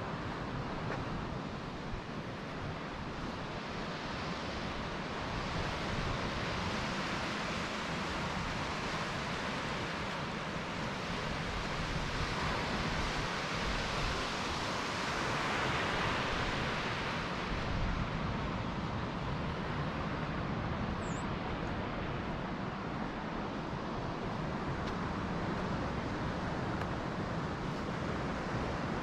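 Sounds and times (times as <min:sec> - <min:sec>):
ocean surf: 0:00.0 - 0:29.0.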